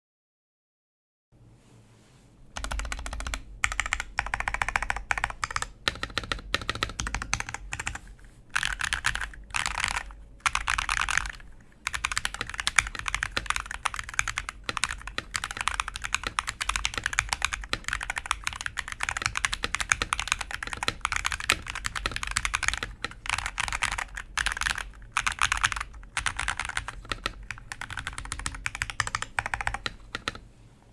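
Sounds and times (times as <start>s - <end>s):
typing on mechanical keyboard: 2.6s - 30.4s.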